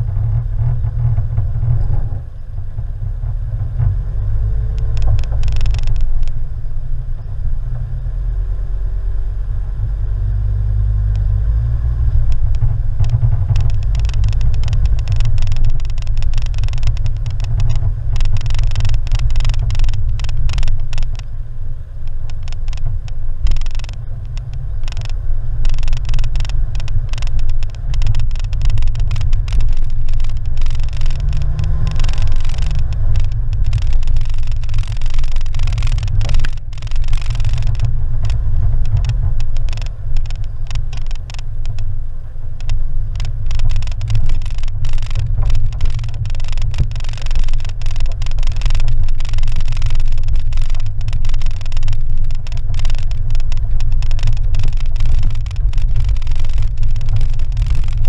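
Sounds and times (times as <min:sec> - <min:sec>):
car rumbling over rough road: 0:00.0 - 0:58.0
gravel crackling under tyres: 0:00.0 - 0:58.0.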